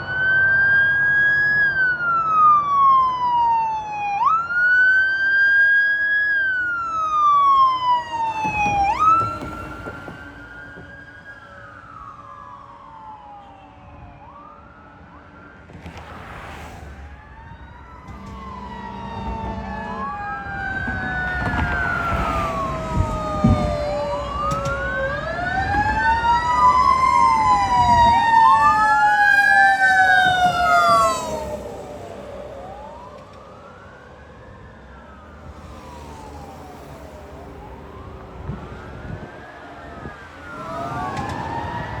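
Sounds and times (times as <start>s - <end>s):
electronic siren wails: 0.0s - 13.8s, 17.2s - 42.0s
long falling siren tones: 0.0s - 15.7s, 17.0s - 42.0s.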